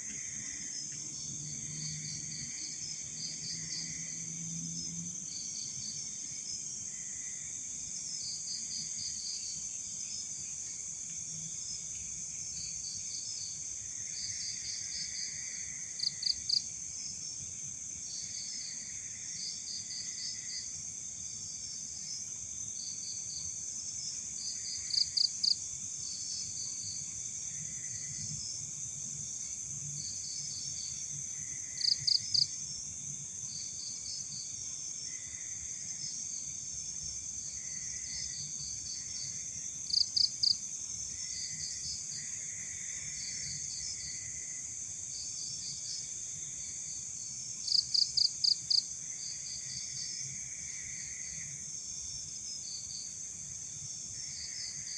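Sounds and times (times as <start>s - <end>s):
cricket chirping trills: 0.0s - 54.9s
crickets hissing chorus: 0.0s - 54.9s.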